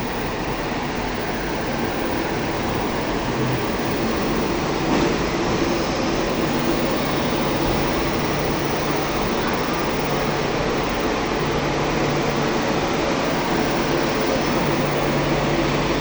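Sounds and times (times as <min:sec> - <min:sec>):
train ventilation hum: 0:00.0 - 0:16.0.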